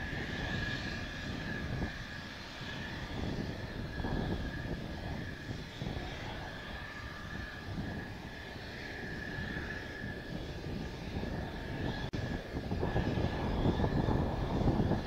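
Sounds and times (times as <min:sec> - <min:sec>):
jet engine idling whine: 0:00.0 - 0:15.0
wind buffeting microphone: 0:00.0 - 0:15.0.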